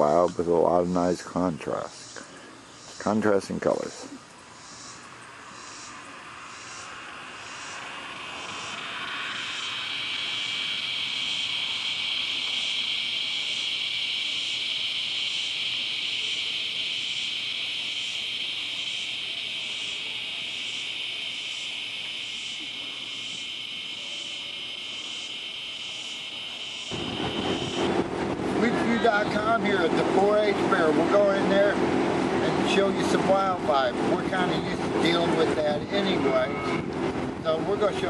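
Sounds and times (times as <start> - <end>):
insects chirring: 0.0 - 38.0
pulsing insect call: 0.0 - 38.0
wind-like outdoor noise: 0.0 - 38.0.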